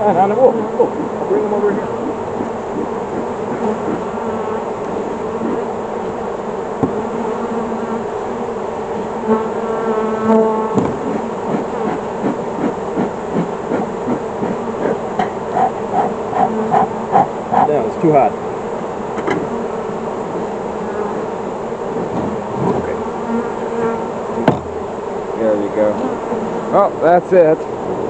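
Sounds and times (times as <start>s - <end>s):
bees buzzing: 0.0s - 28.0s.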